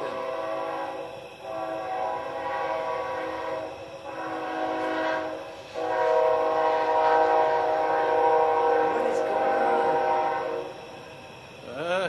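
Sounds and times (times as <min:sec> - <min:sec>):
train horn blasts: 0:00.0 - 0:11.0.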